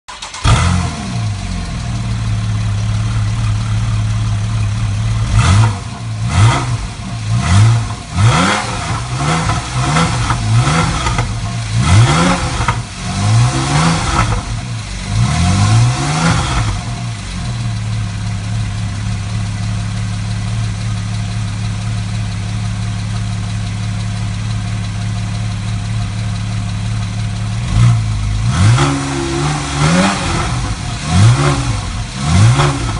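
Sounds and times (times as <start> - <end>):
engine revving: 0.1 - 20.8, 26.1 - 32.9
car engine idling: 0.1 - 32.9
exhaust pops and crackles: 0.4 - 32.9.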